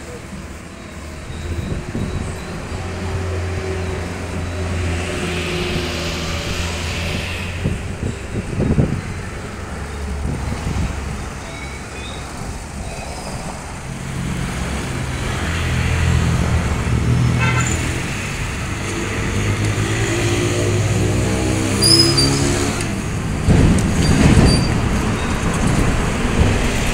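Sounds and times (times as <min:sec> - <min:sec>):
vehicle engines running: 0:00.0 - 0:26.9.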